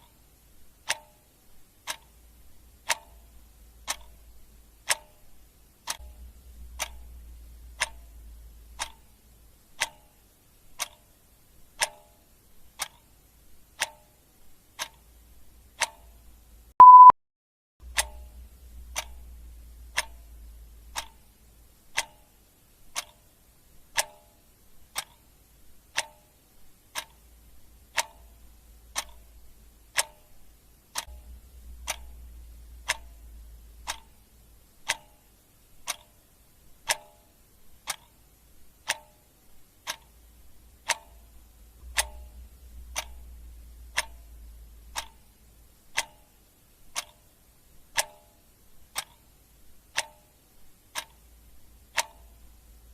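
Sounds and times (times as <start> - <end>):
clock ticking: 0.0 - 17.1, 17.8 - 52.9
faint low hum: 0.0 - 17.1, 17.8 - 52.9.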